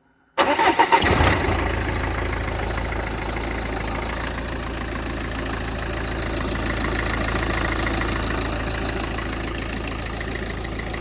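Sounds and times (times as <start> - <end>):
diesel engine idling: 0.4 - 11.0.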